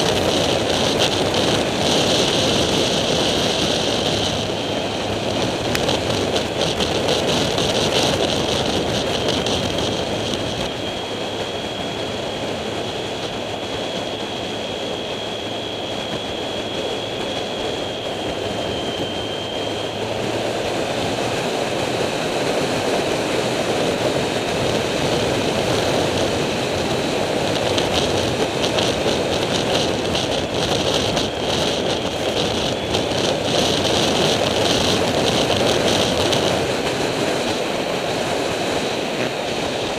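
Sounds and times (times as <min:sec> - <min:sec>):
motorcycle engine running: 0:00.0 - 0:39.9
thin high whine: 0:00.0 - 0:39.9
wind rushing over microphone: 0:00.0 - 0:39.9.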